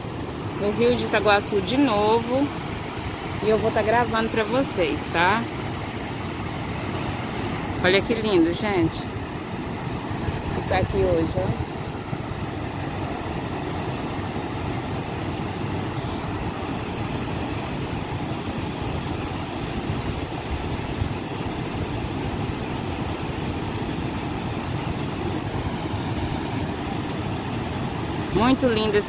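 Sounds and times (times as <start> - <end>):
water rushing over waterfalls: 0.0 - 29.0.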